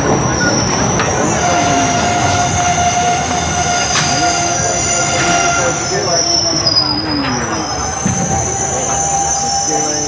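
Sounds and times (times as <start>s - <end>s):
train coach rumble: 0.0s - 10.0s
train wheels squealing: 0.0s - 10.0s.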